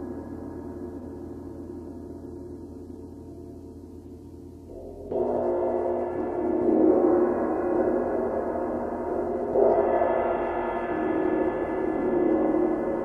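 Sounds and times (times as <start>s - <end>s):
gong and cymbals ringing: 0.0s - 13.0s.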